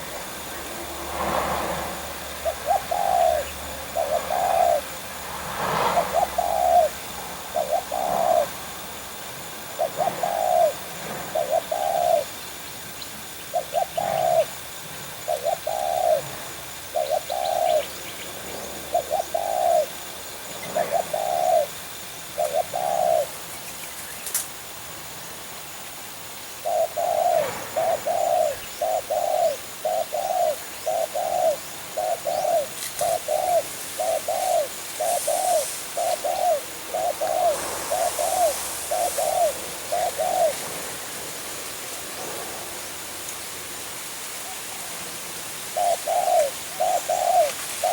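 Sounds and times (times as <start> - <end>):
doves cooing: 0.0 - 23.6, 26.5 - 43.8, 44.4 - 47.9.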